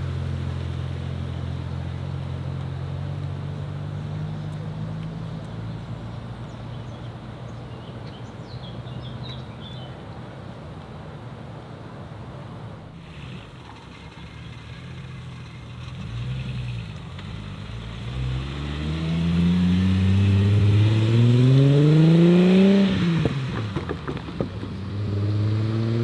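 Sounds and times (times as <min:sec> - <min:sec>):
car engine running: 0:00.0 - 0:10.0, 0:12.9 - 0:25.6.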